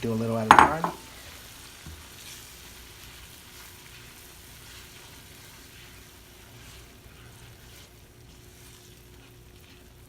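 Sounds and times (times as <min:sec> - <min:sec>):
butter and garlic sizzling: 0:00.0 - 0:10.0.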